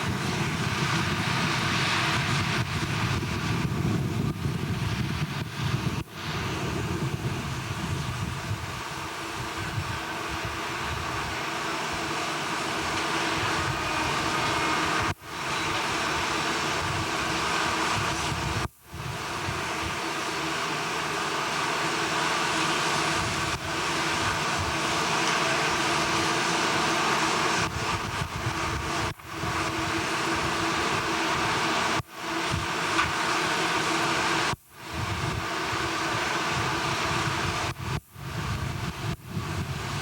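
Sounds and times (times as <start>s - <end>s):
industrial machinery humming: 0.0s - 40.0s.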